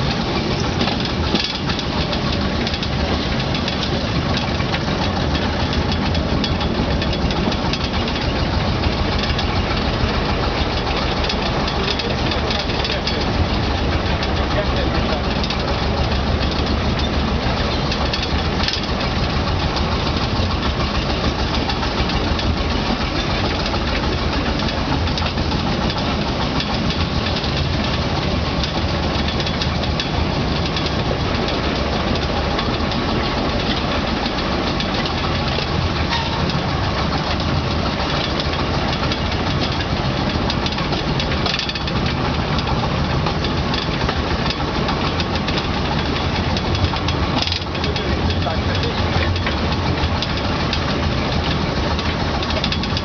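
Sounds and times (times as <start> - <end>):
locomotive engine running: 0.0 - 53.0.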